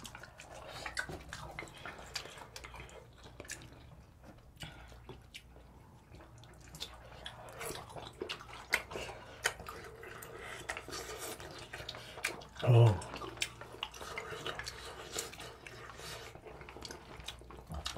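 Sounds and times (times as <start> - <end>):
wet chewing and mouth smacking: 0.0 - 17.9.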